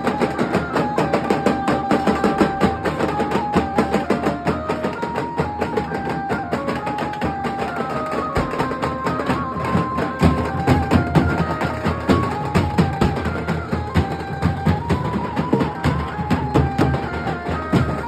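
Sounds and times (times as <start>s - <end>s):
fast dhol drumming: 0.0s - 18.0s.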